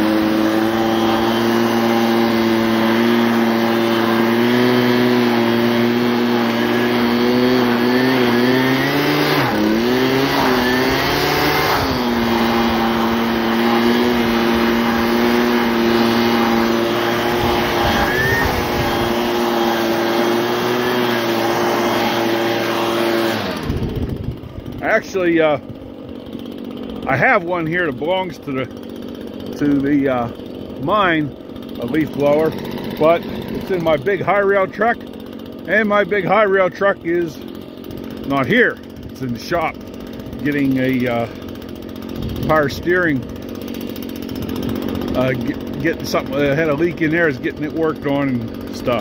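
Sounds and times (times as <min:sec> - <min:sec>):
leaf blower running: 0:00.0 - 0:49.0.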